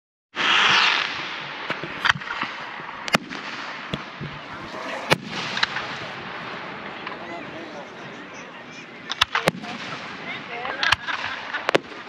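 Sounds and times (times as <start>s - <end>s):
fireworks bangs: 0.4s - 12.0s.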